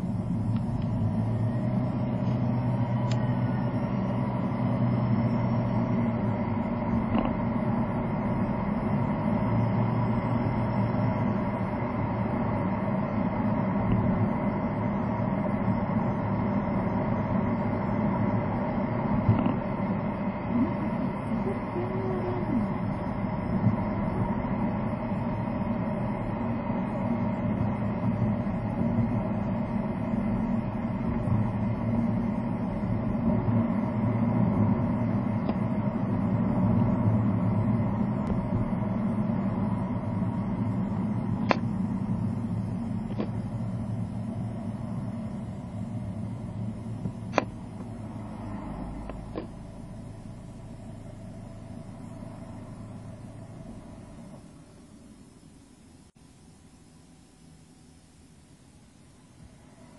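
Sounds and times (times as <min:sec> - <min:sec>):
car engine and road noise: 0:00.0 - 0:56.4, 0:58.4 - 0:59.9.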